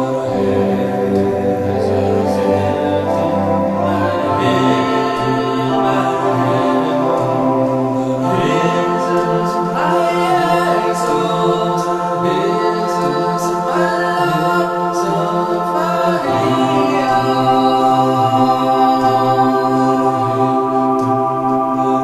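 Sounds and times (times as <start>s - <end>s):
slow choral song: 0.0s - 22.0s
sustained chords: 0.0s - 22.0s.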